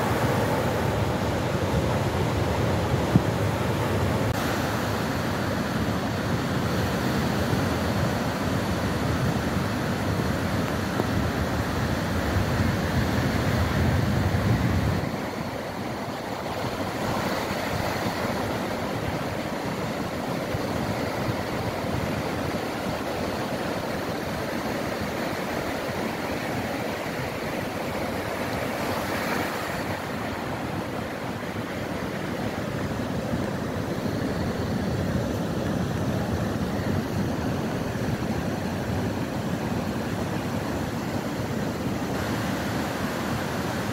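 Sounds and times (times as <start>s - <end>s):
ocean surf washing up beach: 0.0s - 43.9s.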